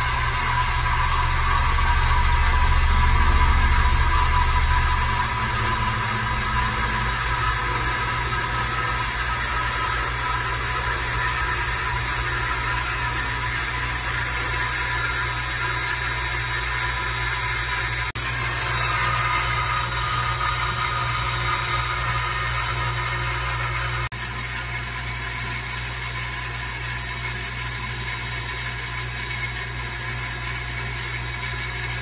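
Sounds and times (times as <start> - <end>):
water pump motor humming: 0.0 - 32.0.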